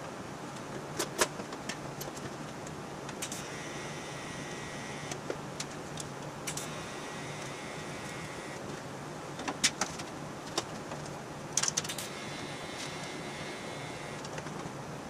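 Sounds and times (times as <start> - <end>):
steady low hum: 1.9 - 15.0.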